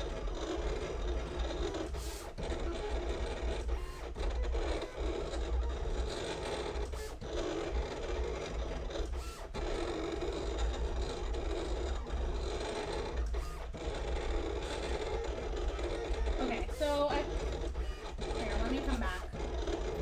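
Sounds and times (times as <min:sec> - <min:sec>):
vinyl cutter motors whirring: 0:00.0 - 0:20.0.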